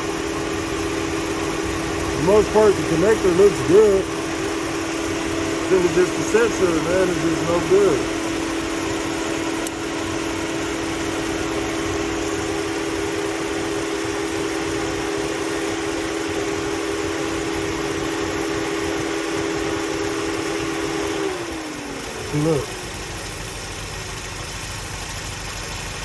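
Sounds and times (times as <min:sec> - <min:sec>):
car engine idling: 0:00.0 - 0:26.0
cooling fans whirring: 0:00.0 - 0:26.0.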